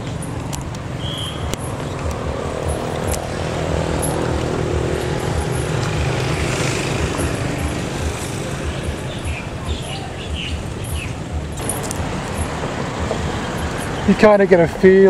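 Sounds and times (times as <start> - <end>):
vehicle engine passing by: 0.0 - 15.0
pulsing low rumble: 1.4 - 13.8.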